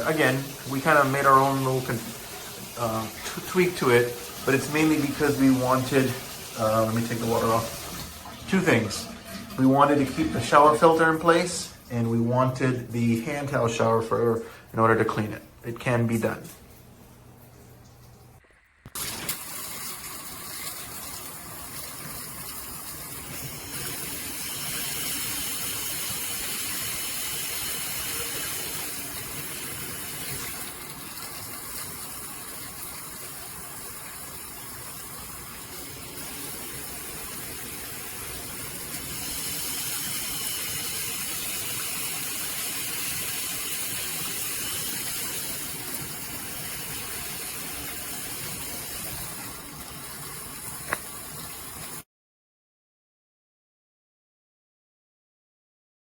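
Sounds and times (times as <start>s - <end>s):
shower spray hissing and splashing: 0.0s - 11.8s, 19.0s - 52.0s.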